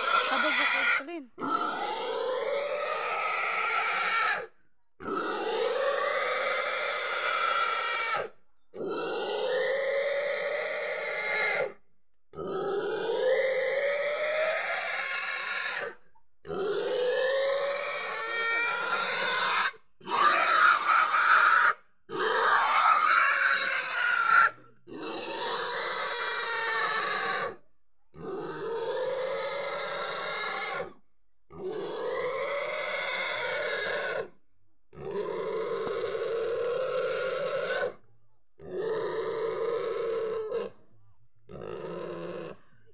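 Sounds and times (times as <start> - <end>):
pig squealing: 0.0 - 11.8, 12.4 - 27.6, 28.2 - 34.3, 35.0 - 38.0, 38.6 - 40.8, 41.5 - 42.6.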